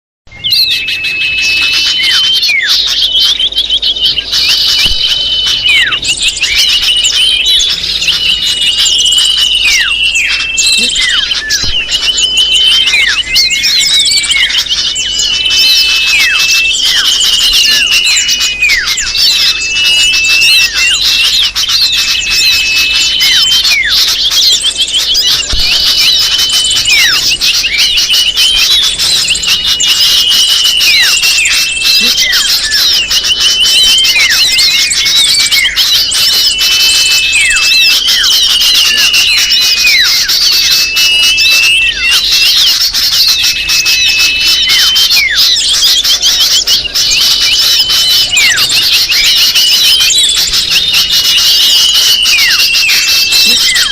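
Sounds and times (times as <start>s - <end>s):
small birds chattering: 0.3s - 53.9s.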